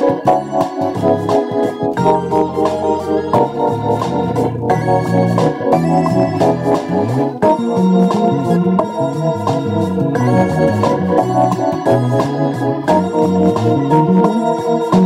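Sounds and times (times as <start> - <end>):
electric bass guitar groove: 0.0 - 15.0
organ-like keyboard chords: 0.0 - 15.0
percussion: 0.0 - 15.0.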